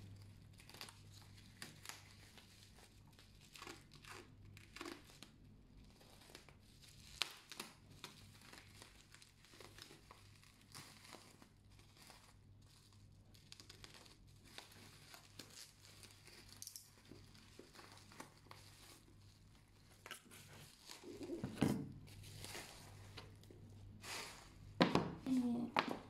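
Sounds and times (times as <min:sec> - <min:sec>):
bubble wrap crinkling and tearing: 0:00.0 - 0:26.0.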